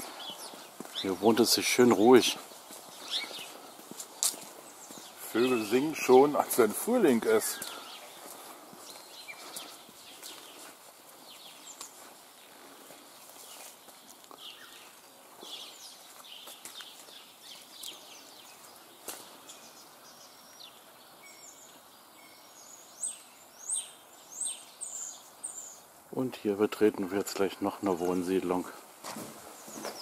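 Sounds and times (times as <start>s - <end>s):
faint outdoor hiss: 0.0s - 30.0s
songbirds chirping: 0.0s - 30.0s.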